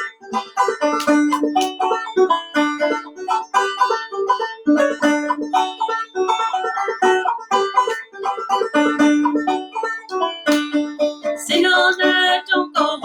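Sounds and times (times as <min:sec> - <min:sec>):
clawhammer banjo playing: 0:00.0 - 0:13.0.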